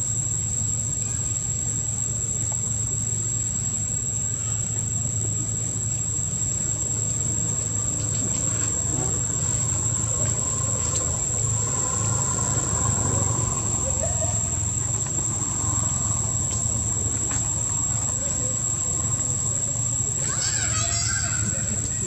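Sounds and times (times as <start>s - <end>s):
high-pitched insect drone: 0.0s - 22.0s
low steady rumble: 0.0s - 22.0s.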